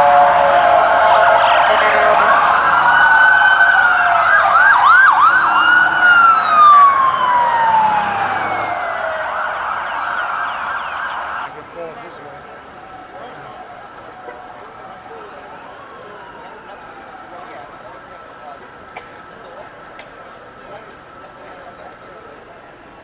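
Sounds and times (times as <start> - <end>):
emergency sirens wailing: 0.0 - 23.0.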